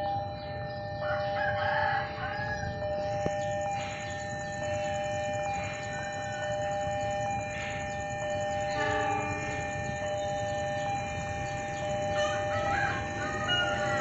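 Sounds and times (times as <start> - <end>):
level crossing alarm two-note tone: 2.0 - 14.0.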